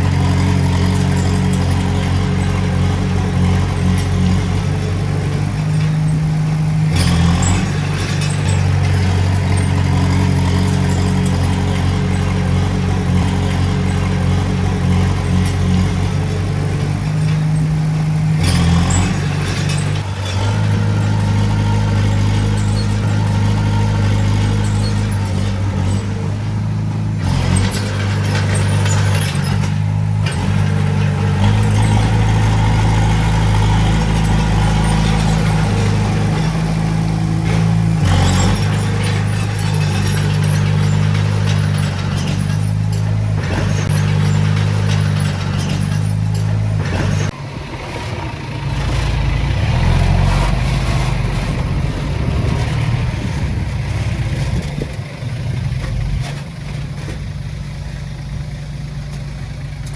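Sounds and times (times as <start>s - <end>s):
bulldozer clatter: 0.0s - 59.9s
bulldozer diesel engine: 0.0s - 59.9s.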